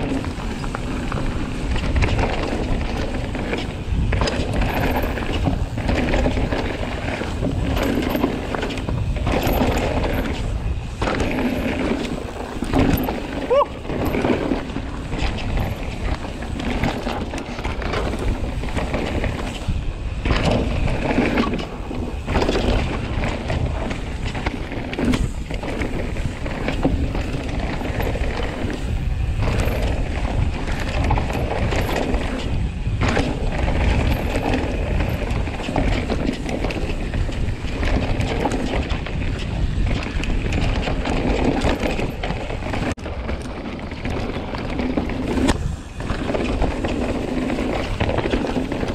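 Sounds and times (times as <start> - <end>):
bike tyres rolling on dirt: 0.0 - 48.9
wind on microphone: 0.0 - 48.9
chain and frame rattling: 0.9 - 19.7, 20.3 - 45.5.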